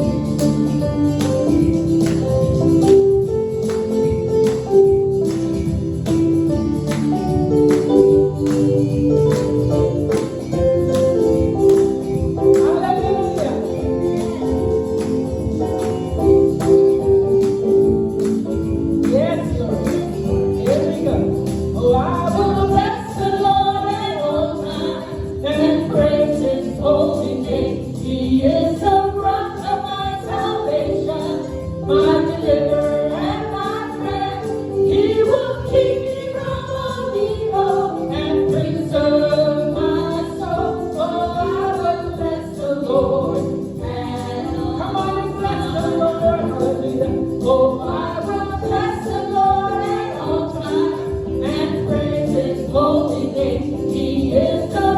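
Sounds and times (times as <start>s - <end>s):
tambourine jingling: 0.0s - 54.9s
gospel singing with band: 5.3s - 54.9s.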